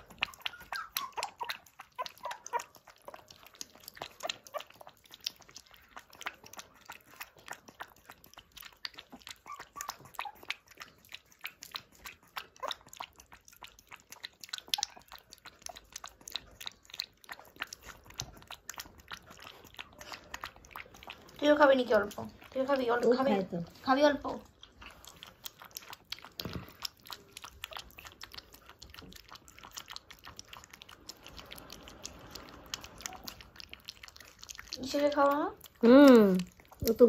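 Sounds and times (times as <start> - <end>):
puppy lapping from metal bowl: 0.0 - 37.0.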